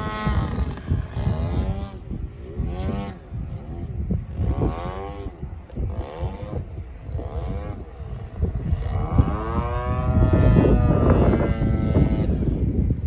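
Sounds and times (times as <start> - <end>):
model airplane motor droning: 0.0 - 13.0
wind buffeting microphone: 0.0 - 13.0.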